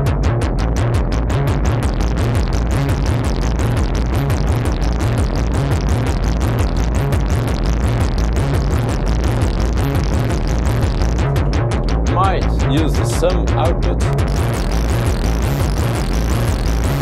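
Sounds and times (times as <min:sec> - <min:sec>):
gritty synthesizer sequence: 0:00.0 - 0:17.0
pulsing synth bass line: 0:00.0 - 0:17.0.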